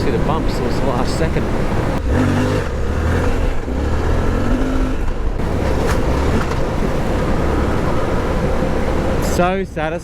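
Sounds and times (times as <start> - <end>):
wind: 0.0 - 10.0.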